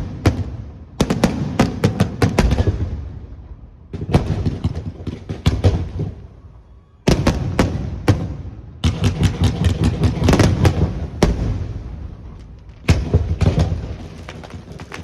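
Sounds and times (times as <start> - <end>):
fireworks shell bursts and booms: 0.0 - 6.3, 7.1 - 15.0.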